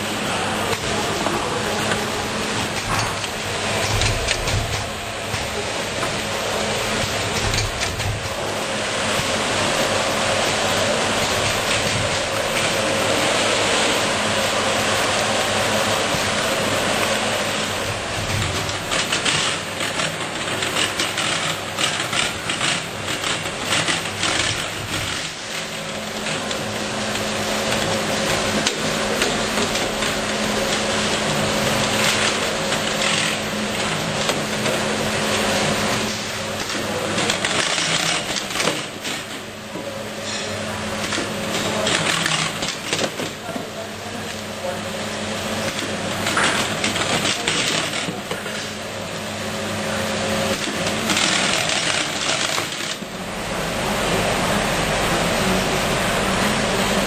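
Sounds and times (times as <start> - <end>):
packaging machine running: 0.0 - 57.0
fast irregular clicking and clatter: 0.7 - 13.0, 15.9 - 44.5, 45.4 - 53.1.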